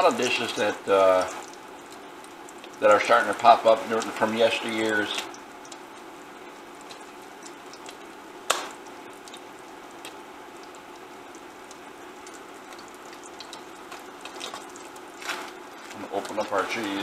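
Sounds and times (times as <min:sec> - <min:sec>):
meat sizzling in a pan: 0:00.0 - 0:17.0.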